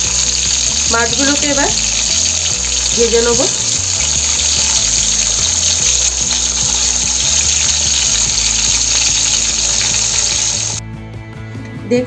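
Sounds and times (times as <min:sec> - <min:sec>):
fish sizzling in oil: 0:00.0 - 0:10.8.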